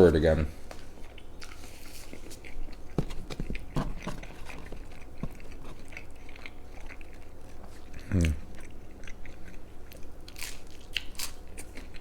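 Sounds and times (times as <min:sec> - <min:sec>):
close-up chewing: 0:00.8 - 0:12.0.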